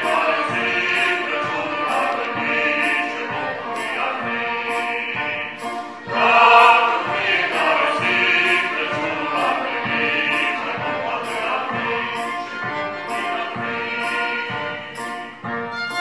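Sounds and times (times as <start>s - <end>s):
violins: 0.0s - 16.0s
voices singing along: 0.0s - 16.0s.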